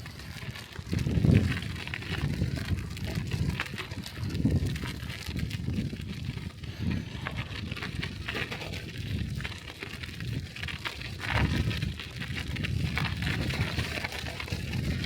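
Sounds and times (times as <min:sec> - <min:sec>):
bicycle tyres crunching snow: 0:00.0 - 0:15.0.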